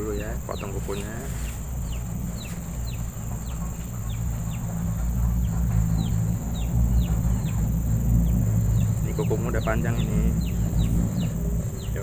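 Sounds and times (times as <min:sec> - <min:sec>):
high insect drone: 0:00.0 - 0:12.0
low rumble: 0:00.0 - 0:12.0
small bird chirping: 0:00.0 - 0:12.0.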